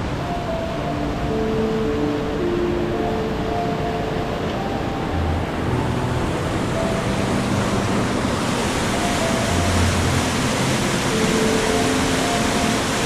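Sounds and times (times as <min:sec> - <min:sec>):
faint held musical notes: 0:00.0 - 0:13.0
rushing white water: 0:00.0 - 0:13.0.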